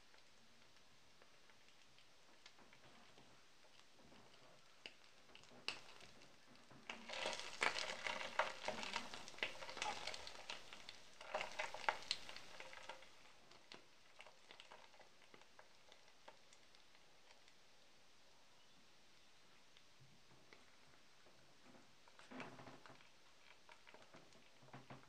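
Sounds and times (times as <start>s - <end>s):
sizzling and crackling in a pan: 0.0s - 18.4s, 19.0s - 25.0s.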